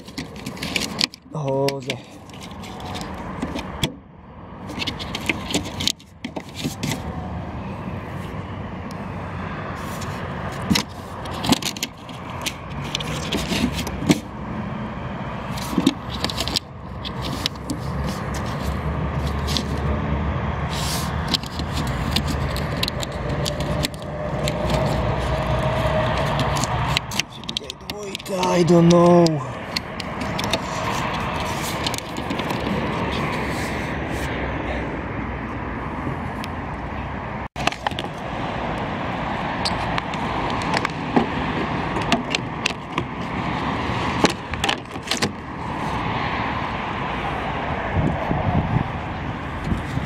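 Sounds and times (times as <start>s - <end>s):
low vehicle rumble: 2.0s - 50.0s.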